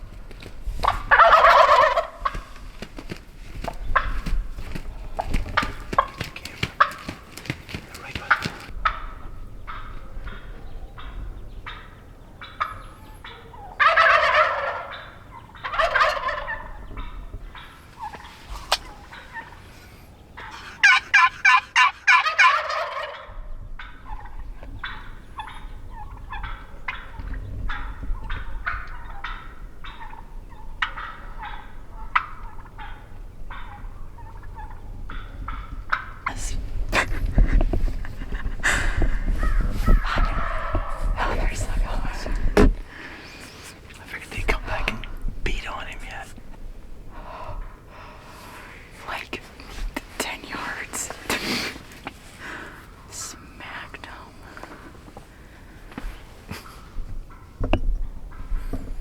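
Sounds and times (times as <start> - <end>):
turkeys gobbling: 0.4 - 45.1, 54.6 - 57.6.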